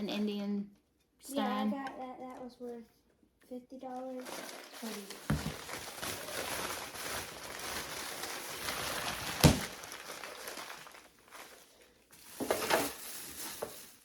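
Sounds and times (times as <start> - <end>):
rustling and handling items: 0.8 - 14.0.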